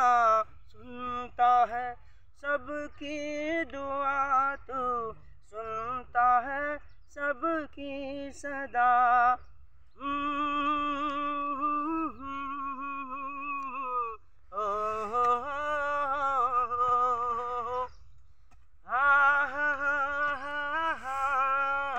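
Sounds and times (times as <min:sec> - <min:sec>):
man singing without words: 0:00.0 - 0:18.1, 0:18.8 - 0:21.9.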